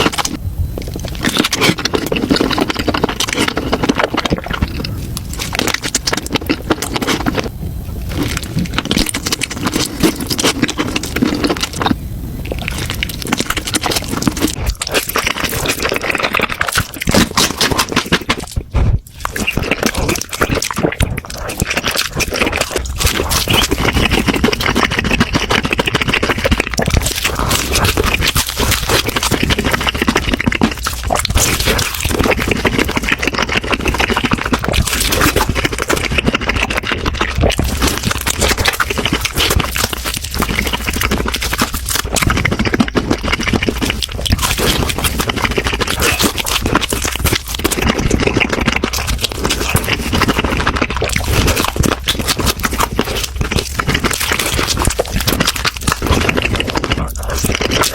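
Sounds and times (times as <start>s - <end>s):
person chewing and smacking: 0.0s - 57.9s.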